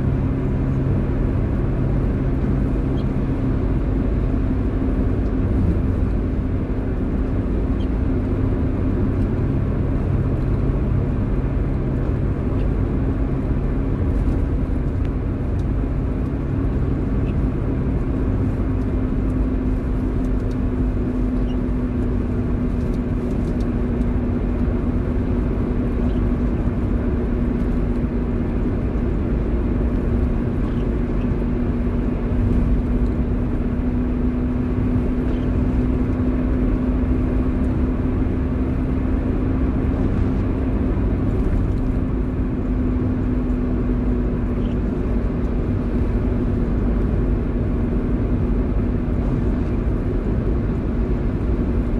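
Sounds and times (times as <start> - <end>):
car engine and tyre noise: 0.0 - 51.9.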